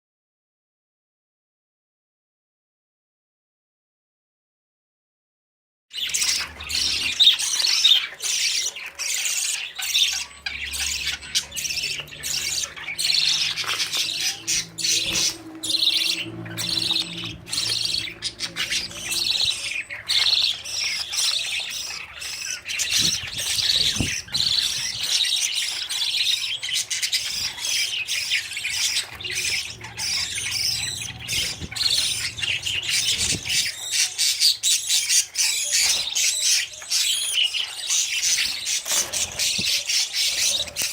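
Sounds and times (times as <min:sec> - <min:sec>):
budgerigars chattering and squawking: 0:06.0 - 0:40.9.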